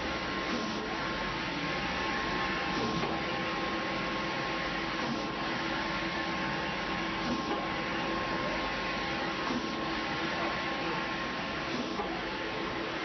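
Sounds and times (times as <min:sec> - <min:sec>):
printer mechanical whir: 0:00.0 - 0:13.0.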